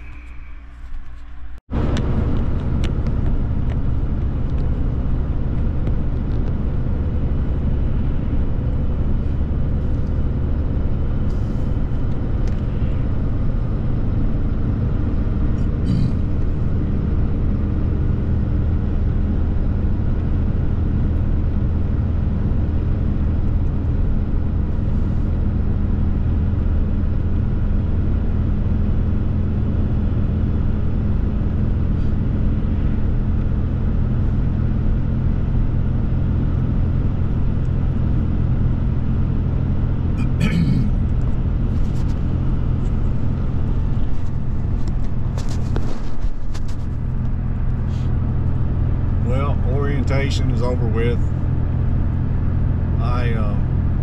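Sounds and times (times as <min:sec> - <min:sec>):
pickup truck engine and tyre drone: 0:00.0 - 0:54.0.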